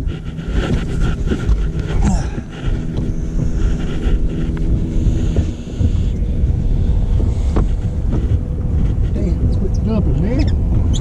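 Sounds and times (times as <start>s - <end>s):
low mechanical hum: 0.0s - 11.0s
wind buffeting microphone: 0.0s - 11.0s.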